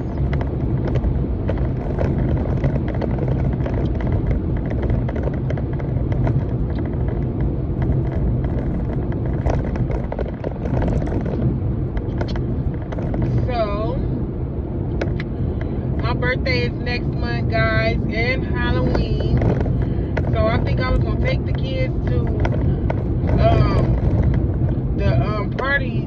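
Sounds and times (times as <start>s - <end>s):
small clicks and rustles: 0.0s - 14.1s, 14.9s - 15.8s, 18.8s - 25.7s
car engine rumble: 0.0s - 26.0s.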